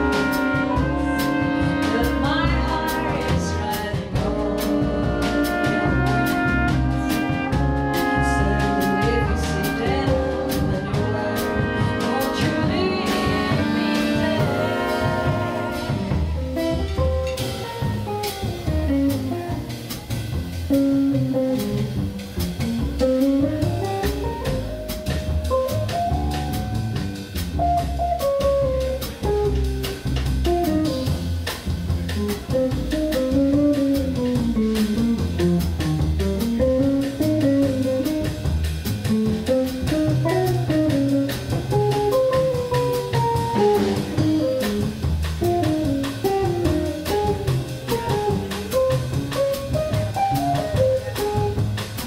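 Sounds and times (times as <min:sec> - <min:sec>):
double bass: 0:00.0 - 0:52.0
drums: 0:00.0 - 0:52.0.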